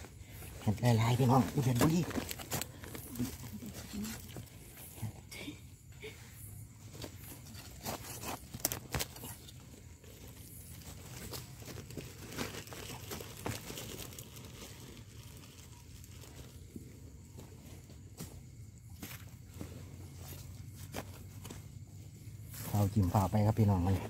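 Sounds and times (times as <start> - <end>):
leaf litter and soil rustling: 0.0 - 24.0.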